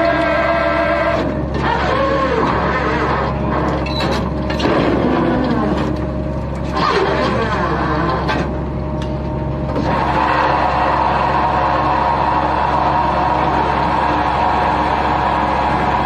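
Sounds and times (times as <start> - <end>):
boat engine and machinery drone: 0.0 - 16.0.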